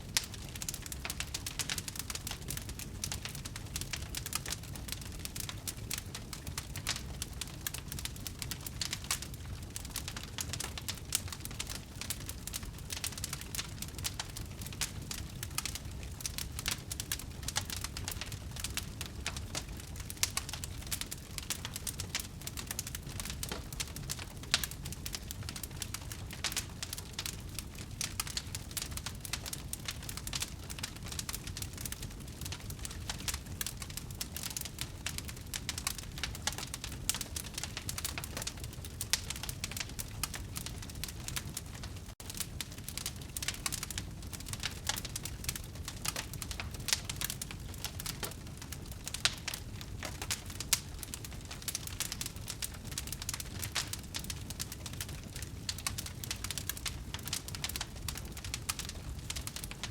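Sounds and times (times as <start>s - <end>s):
bonfire crackling and popping: 0.0s - 59.9s
low rumble of flames: 0.0s - 59.9s.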